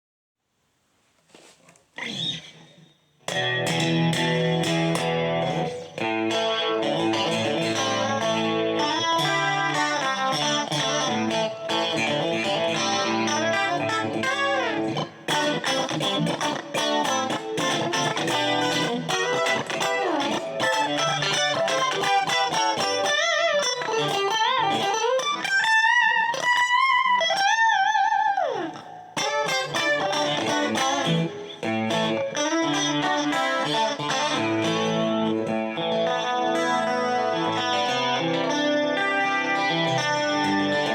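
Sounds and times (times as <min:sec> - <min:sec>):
clean electric guitar playing: 0:02.0 - 0:40.9.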